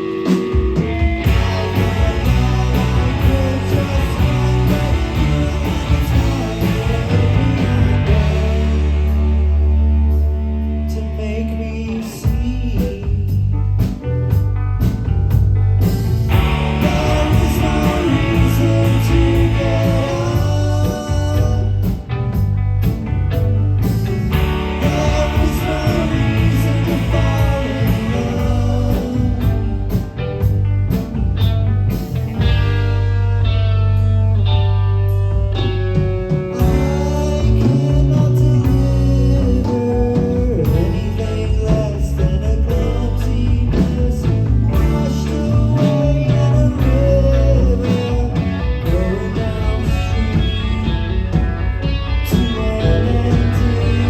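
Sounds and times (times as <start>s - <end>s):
steady drum beat: 0.0s - 9.8s, 12.3s - 32.9s, 35.9s - 54.0s
bass guitar: 0.0s - 54.0s
electric guitar lead: 0.0s - 54.0s
live rock band playing: 0.0s - 54.0s.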